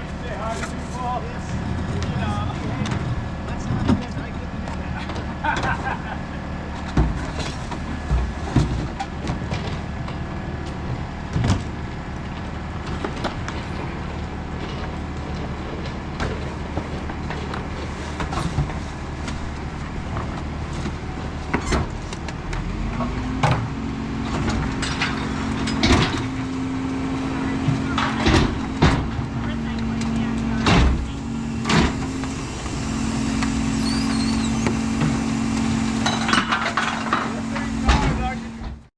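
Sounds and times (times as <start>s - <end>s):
garbage truck diesel engine: 0.0s - 38.9s.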